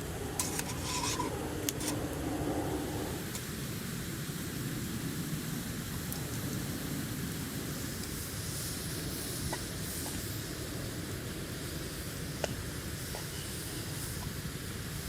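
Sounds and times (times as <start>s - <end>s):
campfire hissing and rumbling: 0.0s - 15.0s
fire crackles: 0.0s - 15.0s.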